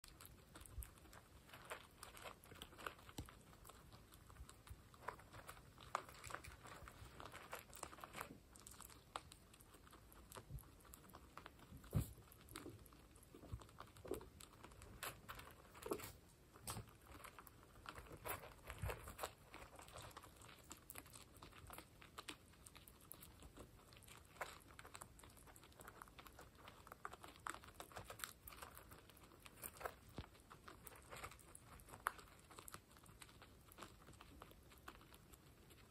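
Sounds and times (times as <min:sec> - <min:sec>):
guinea pigs crunching pellets: 0:00.0 - 0:35.9.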